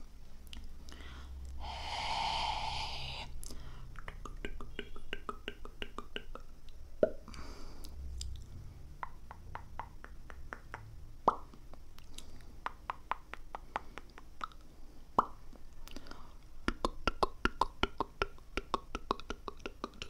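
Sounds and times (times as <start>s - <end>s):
quick tongue clicks: 3.3s - 20.0s.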